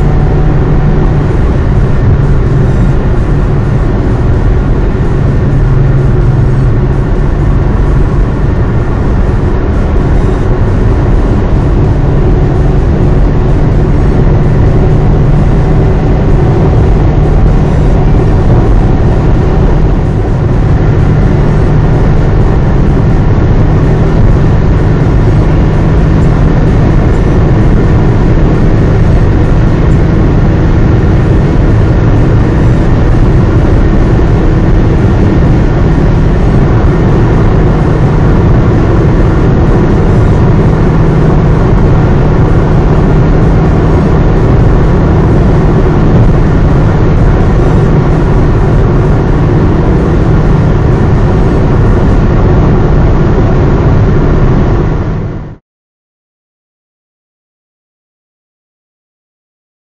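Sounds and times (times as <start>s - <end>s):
car engine and road rumble: 0.0s - 55.6s
constant low hum: 0.0s - 55.6s.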